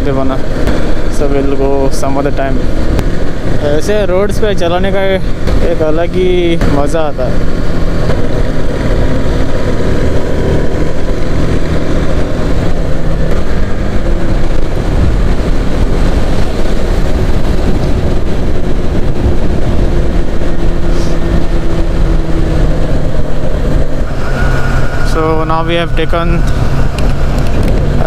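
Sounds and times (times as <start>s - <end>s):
motorcycle engine hum: 0.0s - 28.0s
wind rushing over microphone: 0.0s - 28.0s.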